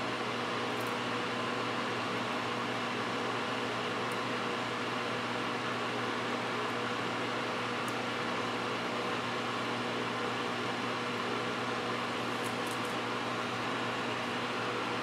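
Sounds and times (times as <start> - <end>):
electric fan whirring: 0.0 - 15.0
low electrical hum: 0.0 - 15.0.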